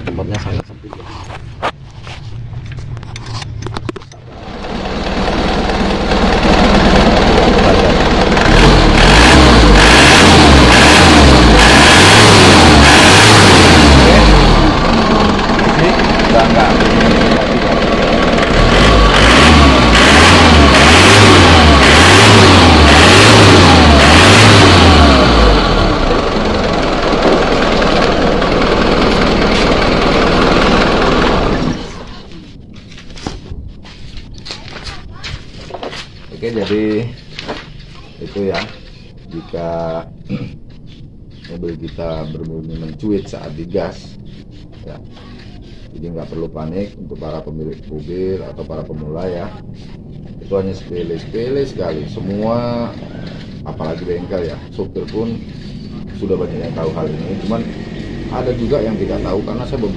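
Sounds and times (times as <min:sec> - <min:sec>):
diesel engine revving: 0:04.2 - 0:34.5, 0:36.4 - 0:59.9.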